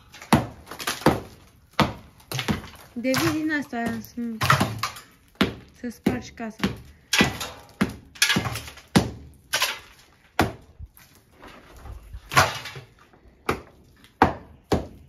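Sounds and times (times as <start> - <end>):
plaster pieces breaking away: 0.0 - 5.7, 7.0 - 15.0
hammer chipping plaster: 0.0 - 10.8, 12.3 - 15.0.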